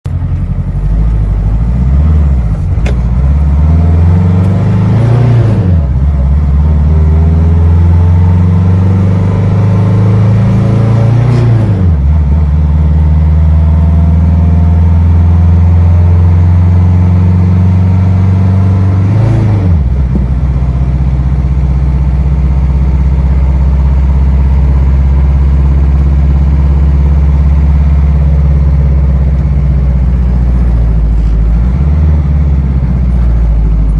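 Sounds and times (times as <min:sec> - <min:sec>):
car engine accelerating: 0:00.1 - 0:33.9.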